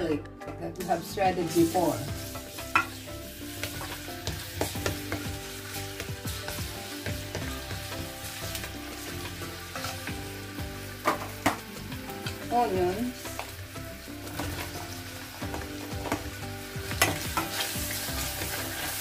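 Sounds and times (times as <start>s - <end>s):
garlic sizzling in oil: 0.8s - 19.0s.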